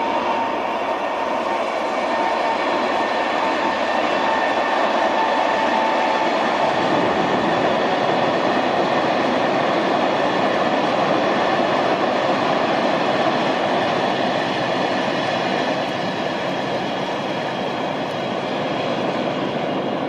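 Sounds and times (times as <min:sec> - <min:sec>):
steel wheels running on rails: 0:00.0 - 0:20.0.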